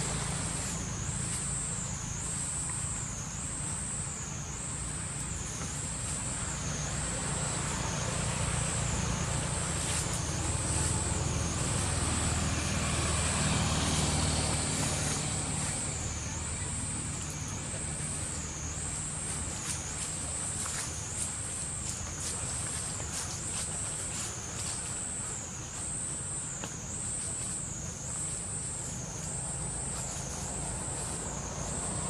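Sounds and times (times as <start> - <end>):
high insect drone: 0.0 - 32.0
vehicle engine rumble: 0.0 - 32.0.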